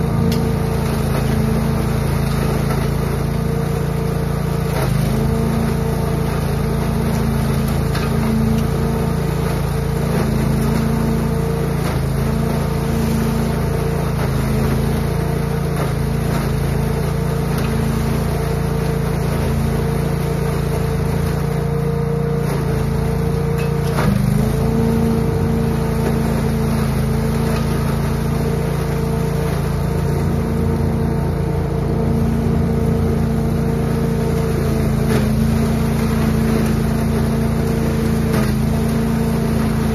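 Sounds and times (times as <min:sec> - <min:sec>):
leaf vacuum engine droning: 0:00.0 - 0:39.9.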